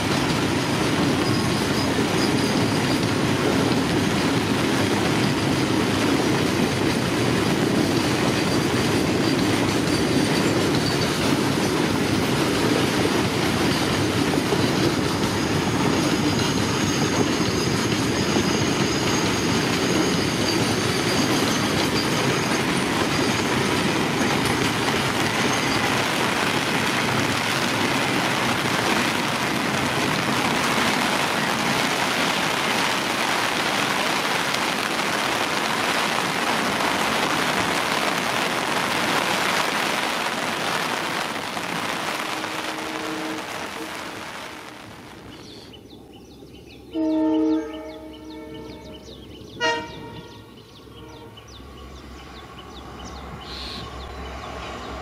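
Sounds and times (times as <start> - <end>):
train rolling past: 0.0 - 55.0.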